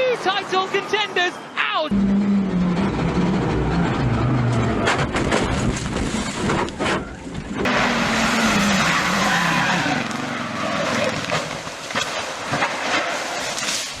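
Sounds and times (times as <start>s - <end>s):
tyres skidding: 0.0s - 14.0s
racing car engines at speed: 1.9s - 13.4s.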